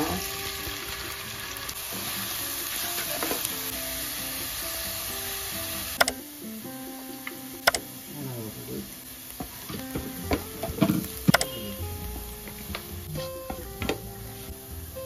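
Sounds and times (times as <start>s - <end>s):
background music with held notes: 0.0s - 15.0s
food sizzling in a pan: 0.0s - 15.0s.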